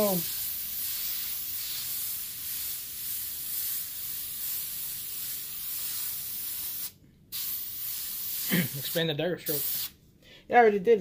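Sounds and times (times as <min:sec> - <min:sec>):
airbrush hissing: 0:00.0 - 0:10.0.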